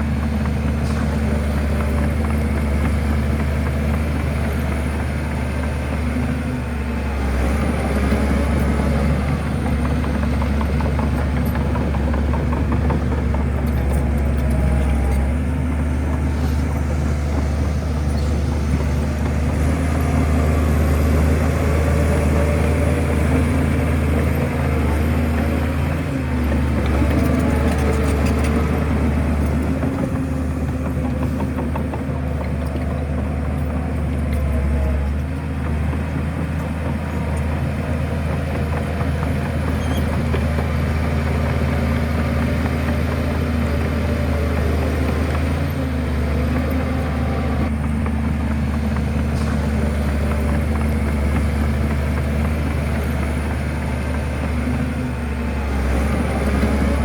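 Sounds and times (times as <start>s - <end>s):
bulldozer diesel engine humming: 0.0s - 57.0s.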